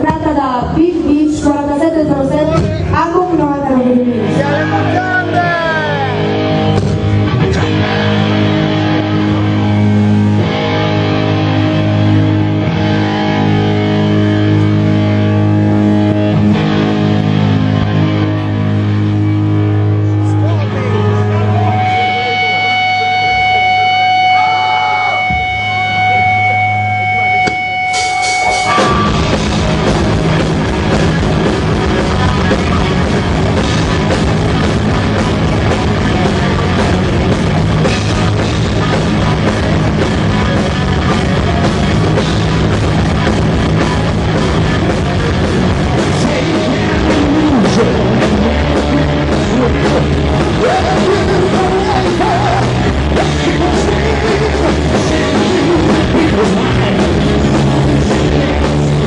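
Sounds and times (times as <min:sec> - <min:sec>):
drum kit: 0:00.0 - 0:19.7, 0:21.5 - 0:59.0
electric guitars: 0:00.0 - 0:59.0
wavering lead guitar line: 0:00.0 - 0:59.0.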